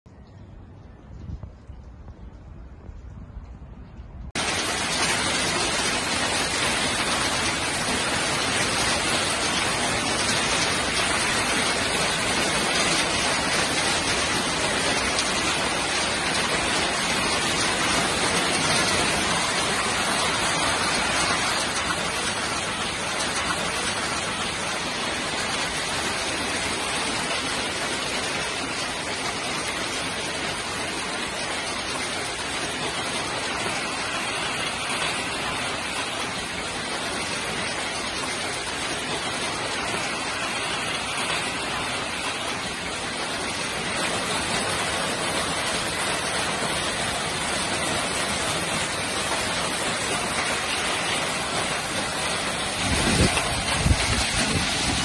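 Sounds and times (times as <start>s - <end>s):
hail and rain falling: 4.3s - 55.0s.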